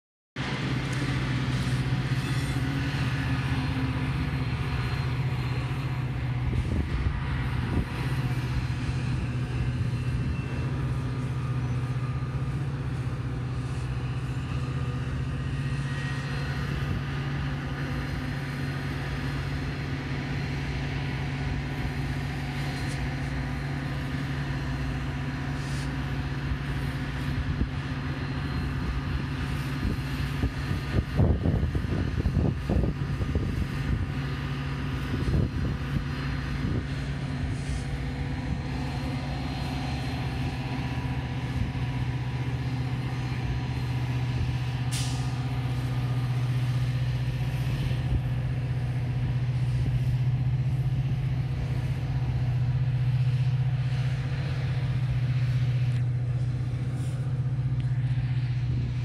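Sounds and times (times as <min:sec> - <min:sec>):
diesel train drone: 0:00.4 - 0:59.0
train cars rumbling: 0:00.4 - 0:59.0.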